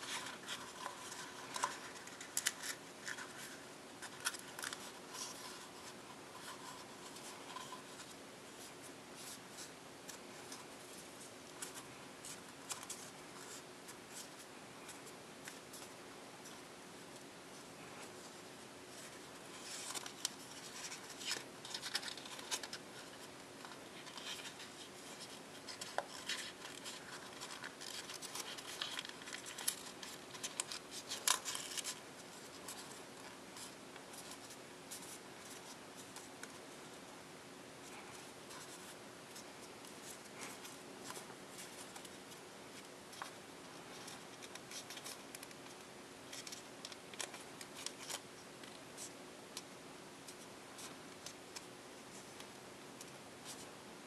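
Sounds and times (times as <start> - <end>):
paper folding and rustling: 0.0 - 36.9, 37.8 - 49.2.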